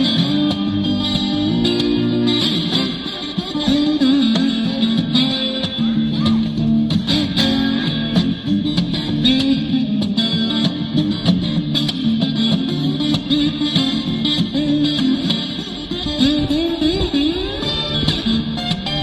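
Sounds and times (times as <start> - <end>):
guitar music with plucked notes: 0.0 - 19.0.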